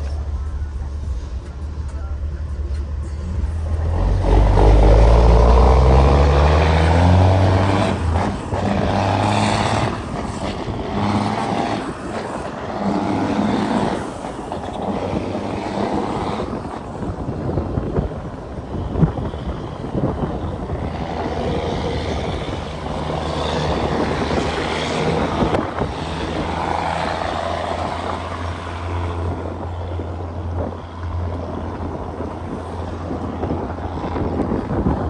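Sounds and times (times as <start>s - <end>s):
diesel truck engine pulling hard: 0.0s - 35.0s.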